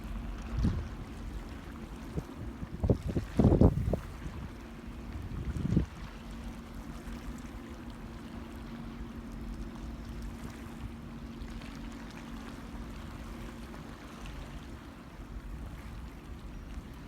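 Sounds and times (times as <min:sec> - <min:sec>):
ship engines humming: 0:00.0 - 0:03.0, 0:03.7 - 0:17.0
wind and water rushing: 0:00.0 - 0:17.0.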